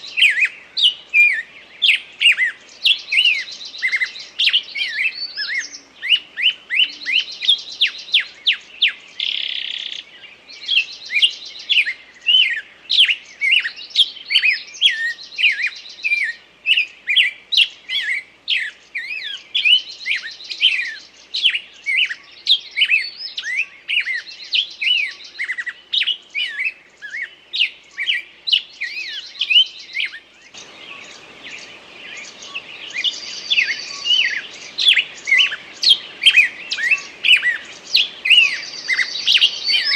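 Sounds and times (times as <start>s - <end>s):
soft low hiss: 0.0s - 39.9s
songbirds chorus chirping and trilling: 0.0s - 39.9s.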